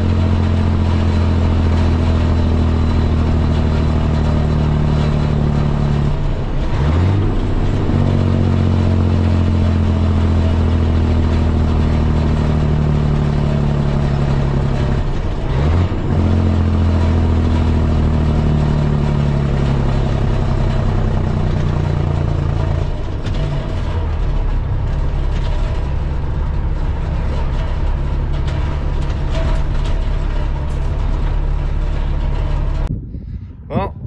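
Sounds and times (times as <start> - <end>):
diesel truck engine: 0.0 - 34.0
road noise: 0.0 - 34.0.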